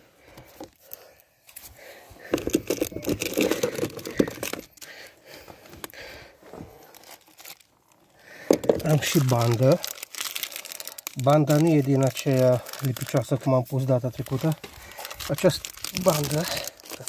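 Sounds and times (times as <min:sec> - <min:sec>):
plastic tubes rustling and clicking: 0:00.3 - 0:17.0.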